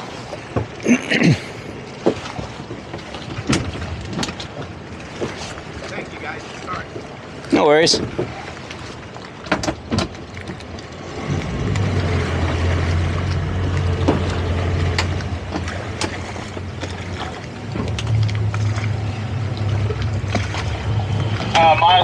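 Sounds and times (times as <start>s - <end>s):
outboard engines droning: 0.0s - 22.0s
wind and water hiss: 0.0s - 22.0s.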